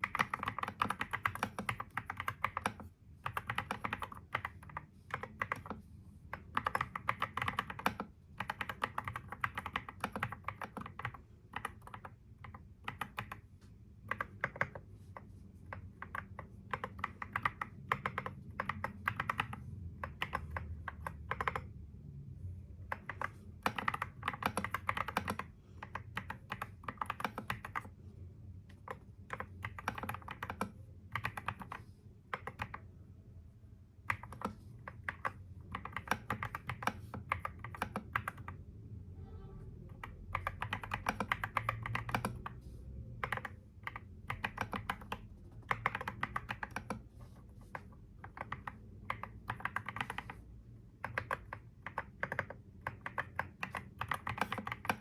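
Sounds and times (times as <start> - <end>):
keyboard typing: 0.0 - 21.8, 22.8 - 28.0, 28.6 - 32.9, 34.0 - 38.7, 39.9 - 55.0.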